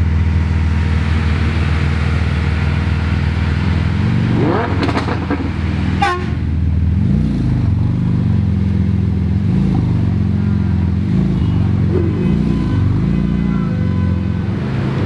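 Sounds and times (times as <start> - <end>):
car engine idling with throttle blips: 0.0 - 15.0.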